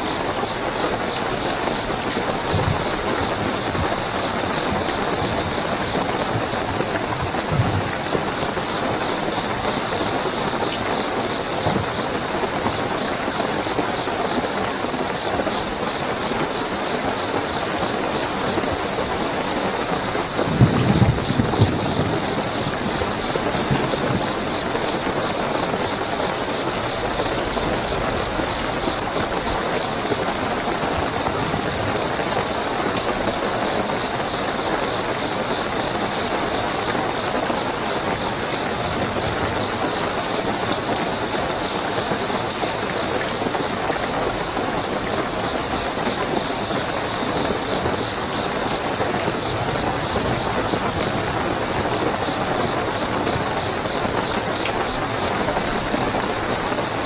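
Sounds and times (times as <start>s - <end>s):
crickets chirping: 0.0s - 57.0s
heavy rain: 0.0s - 57.0s.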